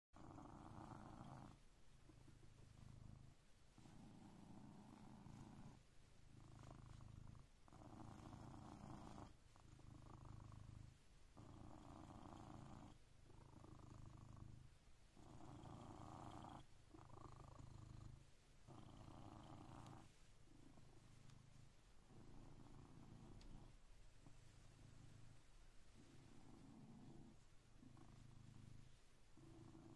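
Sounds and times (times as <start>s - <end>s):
cat purring: 0.2s - 29.9s.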